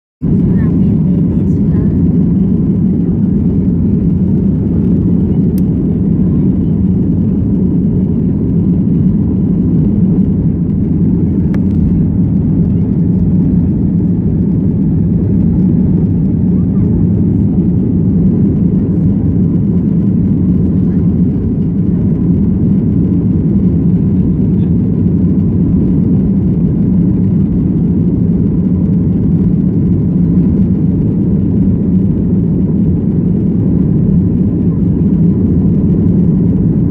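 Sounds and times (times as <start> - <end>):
airliner cabin engine rumble: 0.2 - 36.9.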